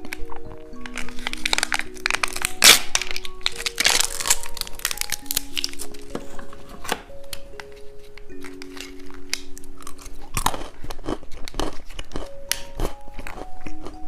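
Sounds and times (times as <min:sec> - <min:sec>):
plastic packaging crinkling: 0:00.0 - 0:14.0
soft background melody: 0:00.0 - 0:14.0.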